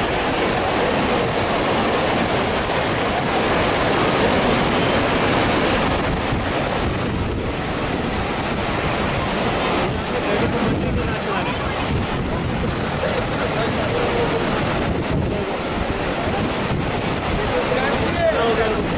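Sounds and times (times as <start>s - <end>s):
stream rushing: 0.0s - 18.9s
wind buffeting microphone: 0.0s - 18.9s.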